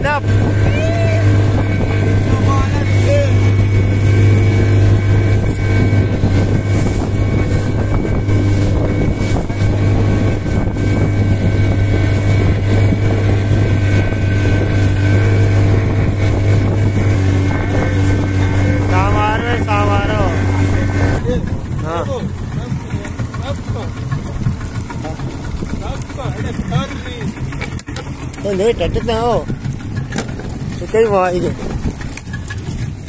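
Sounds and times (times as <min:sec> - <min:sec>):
motorboat engine running: 0:00.0 - 0:33.0.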